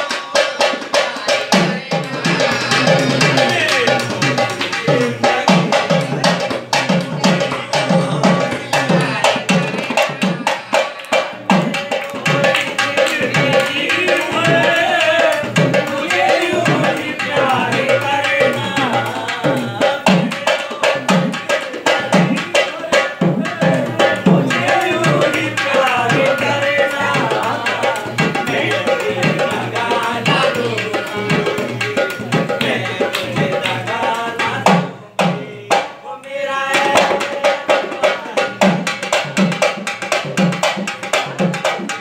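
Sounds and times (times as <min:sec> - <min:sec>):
barrel drum played by hand: 0:00.0 - 0:36.0, 0:36.7 - 0:42.0
person singing: 0:00.0 - 0:39.5.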